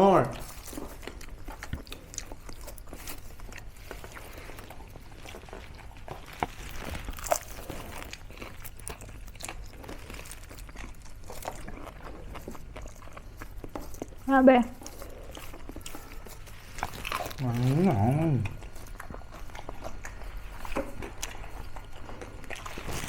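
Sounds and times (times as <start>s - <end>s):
crunchy food chewing: 0.0s - 23.0s.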